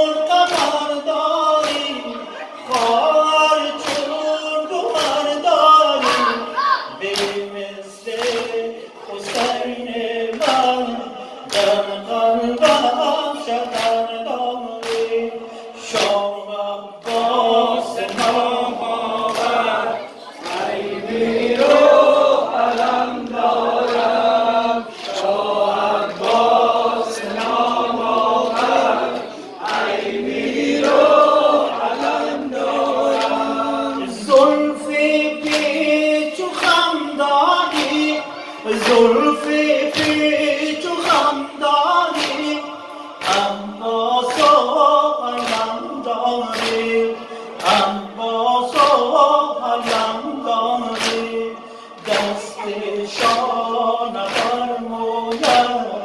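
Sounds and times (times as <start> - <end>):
lead singer: 0.0 - 56.0
men chanting in unison: 0.0 - 56.0.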